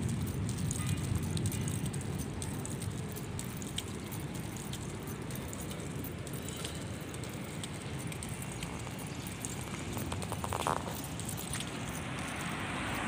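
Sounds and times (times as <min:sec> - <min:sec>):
faint light ticks: 0:00.0 - 0:12.5
road traffic rumble: 0:00.0 - 0:13.0.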